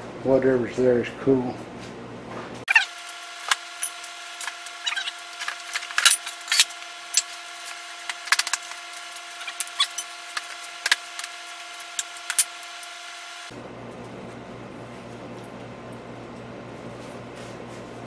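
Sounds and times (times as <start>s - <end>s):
steady hum: 2.0s - 18.0s.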